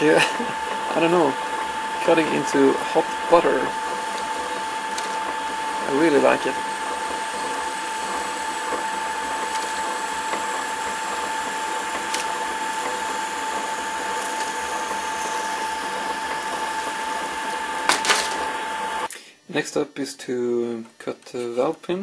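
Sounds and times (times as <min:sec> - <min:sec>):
lathe whining: 0:00.0 - 0:19.1.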